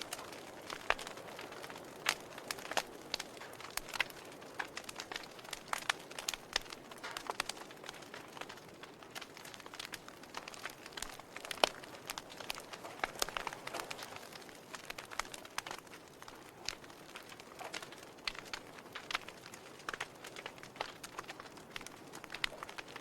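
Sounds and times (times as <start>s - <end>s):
fire crackling and popping: 0.0s - 23.0s
soft fire hiss: 0.0s - 23.0s.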